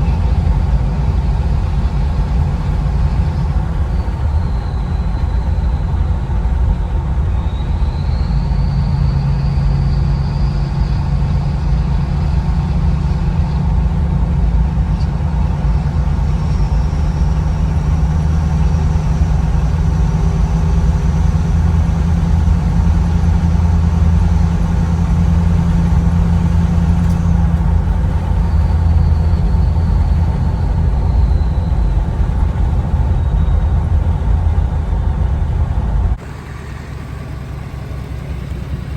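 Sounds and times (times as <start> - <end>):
turbo whistle: 0.0 - 38.5
low diesel exhaust drone: 0.0 - 38.9
road and wind noise: 0.0 - 38.9.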